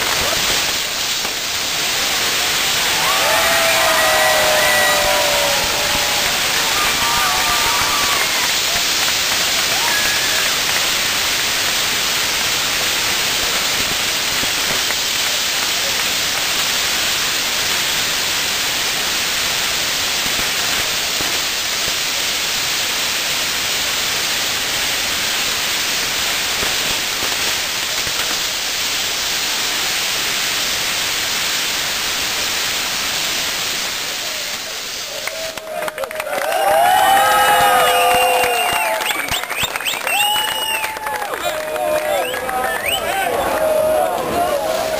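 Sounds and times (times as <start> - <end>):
firework wheel hissing: 0.0 - 44.9.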